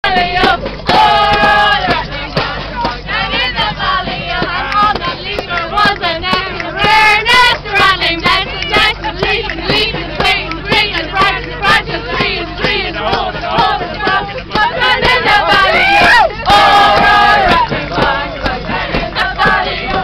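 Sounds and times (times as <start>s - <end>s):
crowd singing loudly: 0.0s - 20.0s
maracas shaking: 0.0s - 20.0s
hand drum slaps: 0.1s - 20.0s.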